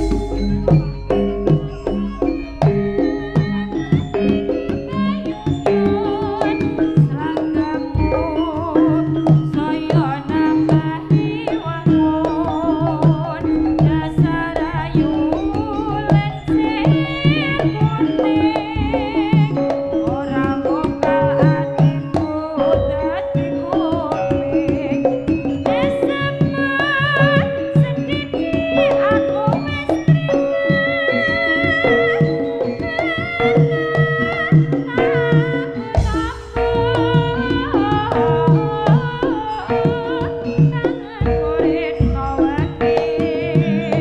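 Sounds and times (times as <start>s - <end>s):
hand drums: 0.0s - 44.0s
pitched percussion: 0.0s - 44.0s
wavering melodic line: 0.0s - 44.0s.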